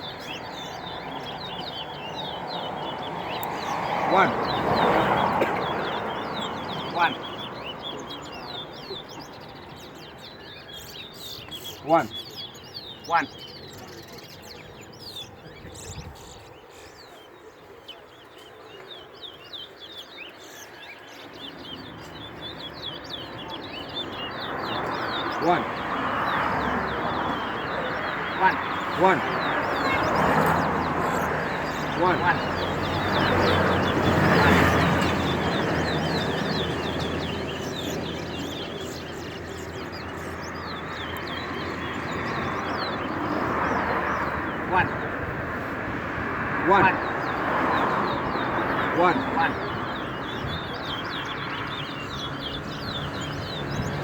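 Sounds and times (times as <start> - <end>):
caged songbirds chirping: 0.0 - 54.0.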